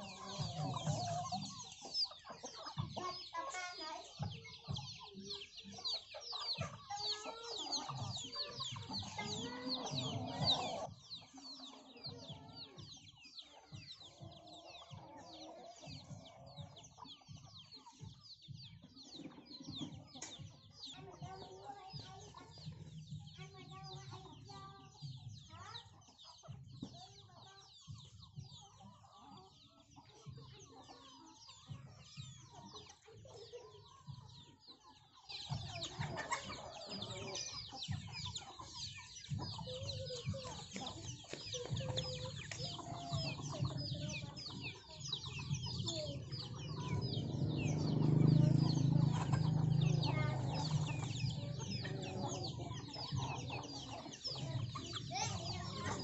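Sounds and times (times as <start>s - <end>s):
hens clucking: 0.0s - 26.9s, 27.8s - 56.0s
chicks cheeping: 0.0s - 56.0s.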